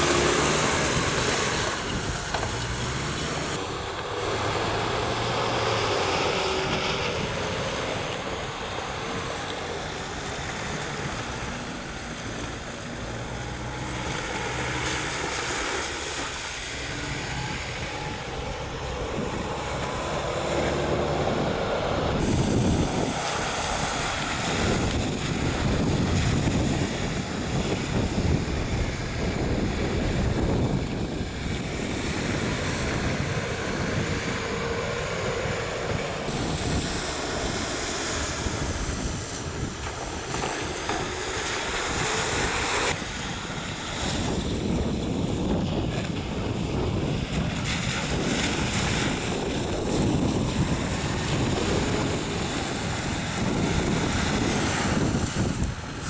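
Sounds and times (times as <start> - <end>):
tyres splashing through water: 0.0 - 56.0
wind rushing over microphone: 0.0 - 56.0.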